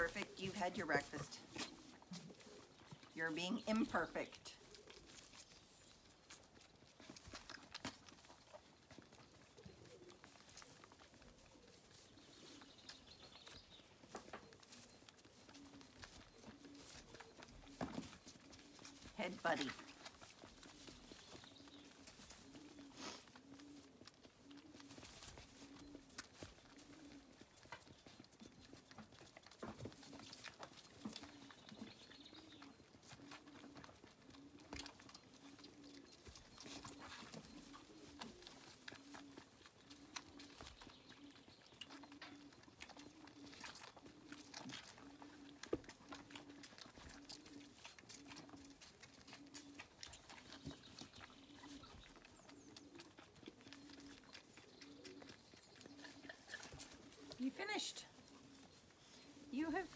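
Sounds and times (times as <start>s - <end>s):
lambs sucking milk bottles: 0.0s - 59.9s.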